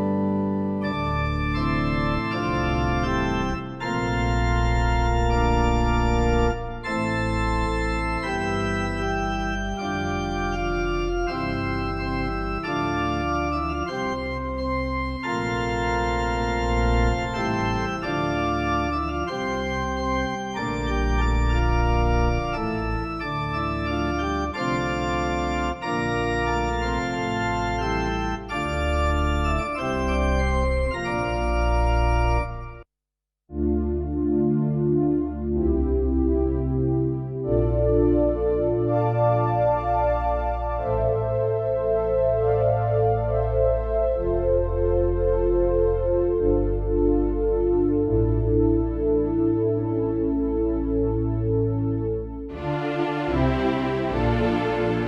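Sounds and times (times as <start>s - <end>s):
organ chords over bass line: 0.0s - 32.8s, 33.5s - 55.0s.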